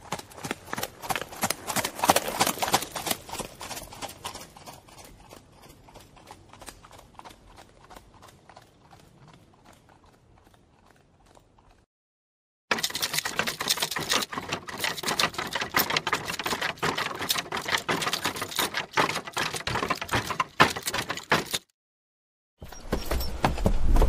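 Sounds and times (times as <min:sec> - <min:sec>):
horses galloping hoofbeats: 0:00.0 - 0:11.9, 0:12.7 - 0:21.6.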